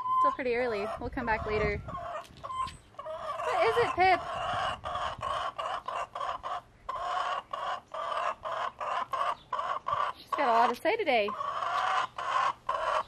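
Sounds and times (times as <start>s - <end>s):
hen clucking: 0.0s - 13.0s.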